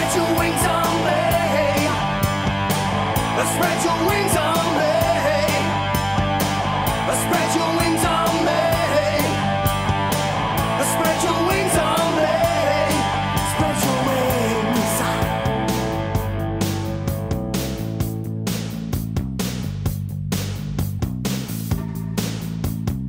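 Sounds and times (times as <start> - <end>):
punk rock instrumental: 0.0 - 23.0.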